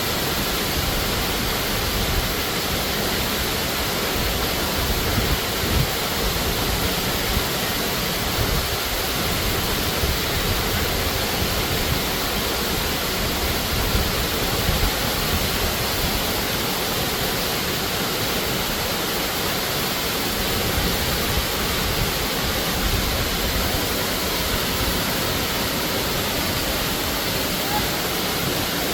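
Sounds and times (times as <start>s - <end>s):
waterfall pouring: 0.0s - 28.9s.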